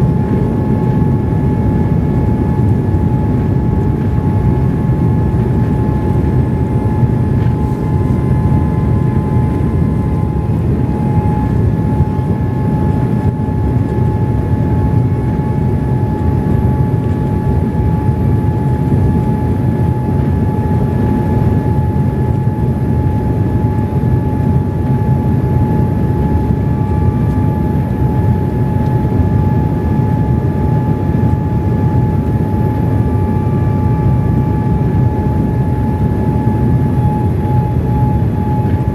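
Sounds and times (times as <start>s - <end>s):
airliner cabin rumble: 0.0s - 38.9s
thin steady whine: 0.0s - 38.9s.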